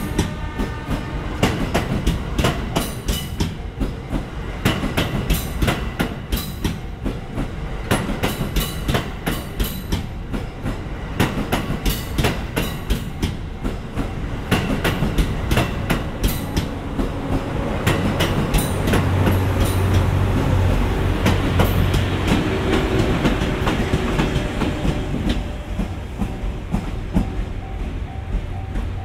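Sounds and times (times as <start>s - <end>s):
low train hum: 0.0s - 29.0s
train wheels clicking over rail joints: 0.0s - 29.0s.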